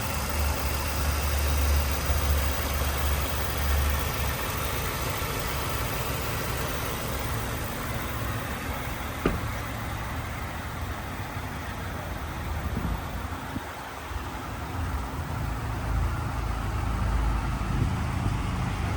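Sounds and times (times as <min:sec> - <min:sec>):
pickup engine idling: 0:00.0 - 0:18.9.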